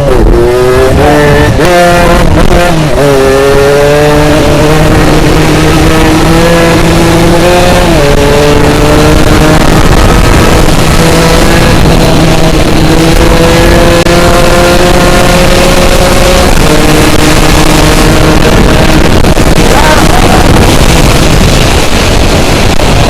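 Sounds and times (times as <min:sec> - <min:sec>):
two-stroke motorcycle engine: 0:00.0 - 0:23.0
wind and road noise: 0:00.0 - 0:23.0.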